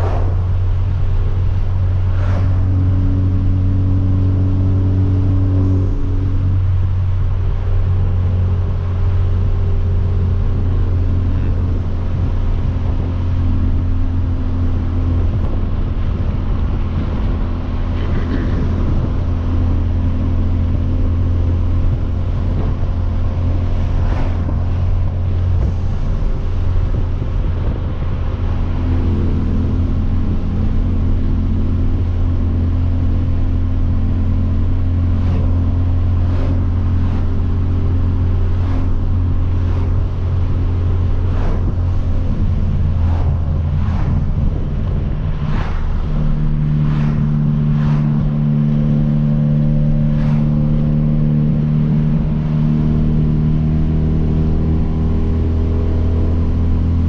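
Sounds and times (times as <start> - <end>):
car exhaust droning while cruising: 0.0 - 57.0.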